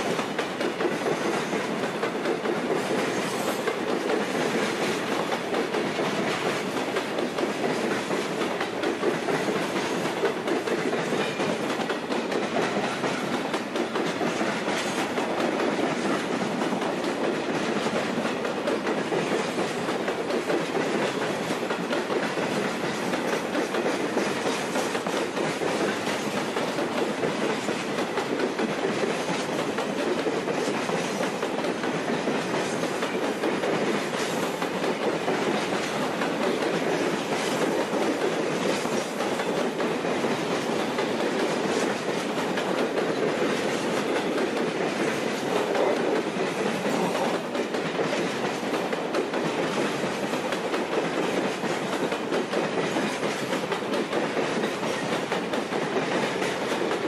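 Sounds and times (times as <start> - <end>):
freight train rumbling: 0.0 - 57.0
wheels clacking over rail joints: 0.0 - 57.0.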